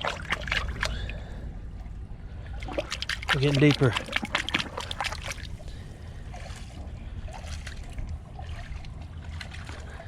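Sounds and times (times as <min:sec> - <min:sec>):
trickling water: 0:00.0 - 0:10.0.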